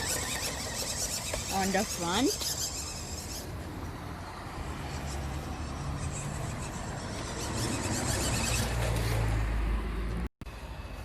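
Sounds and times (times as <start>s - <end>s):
electric rc truck rumbling: 0.0s - 10.3s.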